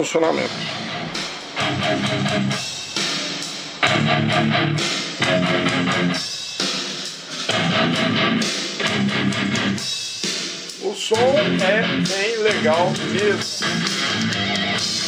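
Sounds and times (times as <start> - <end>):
strummed guitar music: 0.3 - 15.0.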